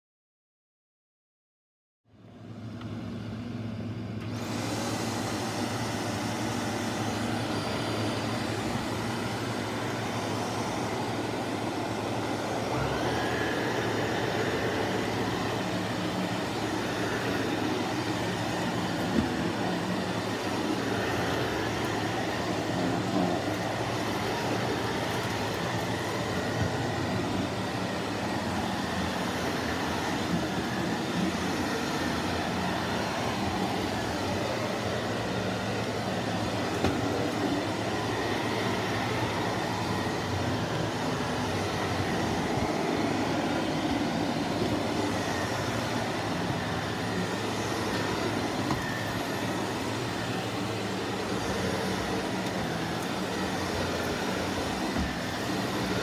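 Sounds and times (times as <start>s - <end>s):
vacuum cleaner running: 2.2s - 56.0s.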